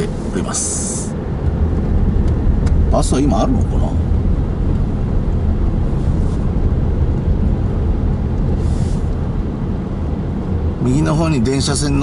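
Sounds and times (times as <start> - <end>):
car engine rumble: 0.0 - 12.0
tyres on road: 0.0 - 12.0.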